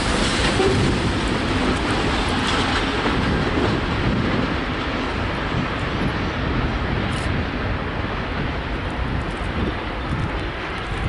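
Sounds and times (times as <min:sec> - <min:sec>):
freight train wheels rumbling on track: 0:00.0 - 0:11.0.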